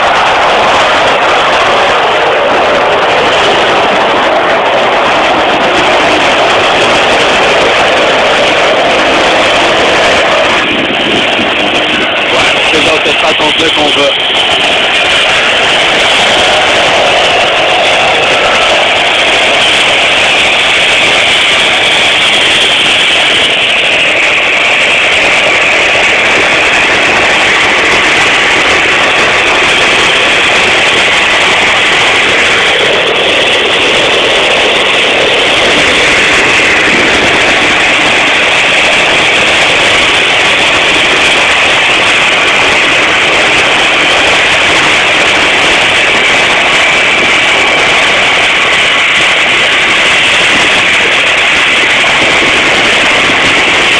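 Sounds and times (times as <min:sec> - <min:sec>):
thin high whine: 0:00.0 - 0:53.9
turboprop engines running: 0:00.0 - 0:53.9.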